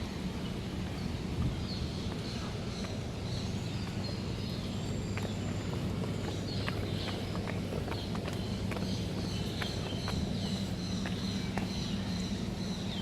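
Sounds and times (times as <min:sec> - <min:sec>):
birds chirping faintly: 0:00.0 - 0:13.0
steady low hum: 0:00.0 - 0:13.0.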